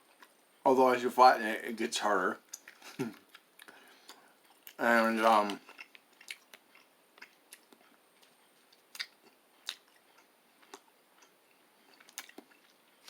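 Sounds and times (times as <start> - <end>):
person chewing: 2.4 - 13.0.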